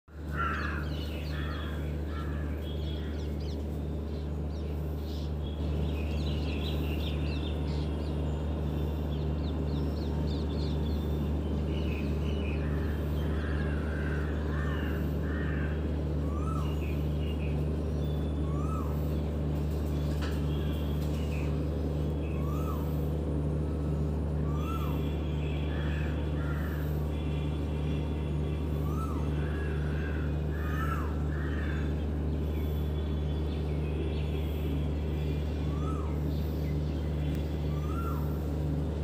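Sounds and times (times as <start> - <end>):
birds calling and chirping: 0.1 - 39.0
low hum: 0.1 - 39.0.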